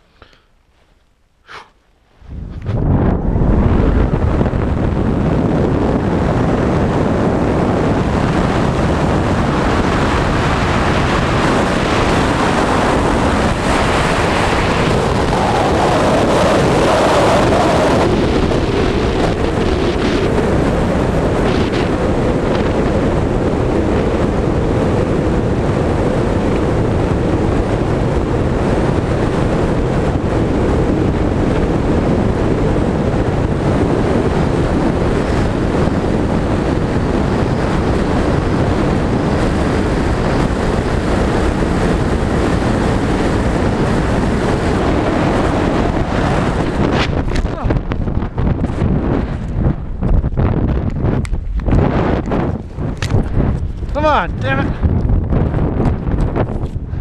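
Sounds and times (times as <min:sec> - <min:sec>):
wind rushing over microphone: 0:01.5 - 0:57.0.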